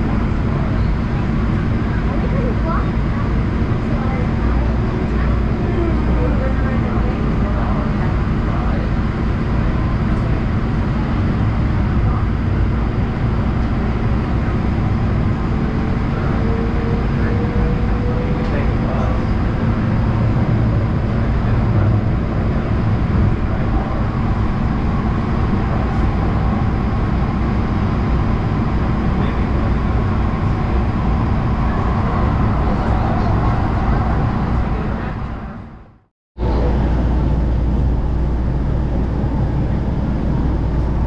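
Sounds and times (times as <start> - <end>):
deep train hum: 0.0 - 41.0.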